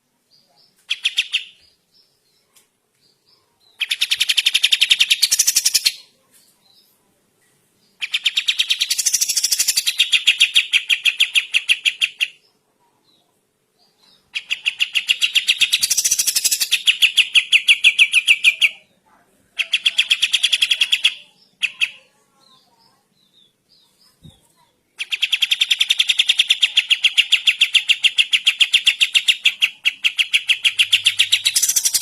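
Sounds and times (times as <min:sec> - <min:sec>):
songbird rattling song: 0:00.7 - 0:06.1, 0:07.9 - 0:12.4, 0:13.9 - 0:18.8, 0:19.6 - 0:22.0, 0:22.9 - 0:32.0.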